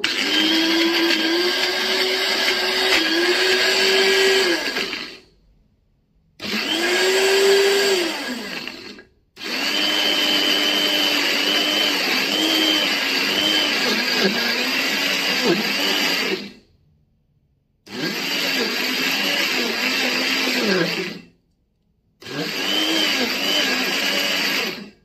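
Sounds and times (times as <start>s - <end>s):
electric mixer grinder running: 0.0s - 5.3s, 6.4s - 16.7s, 17.9s - 21.3s, 22.2s - 25.0s.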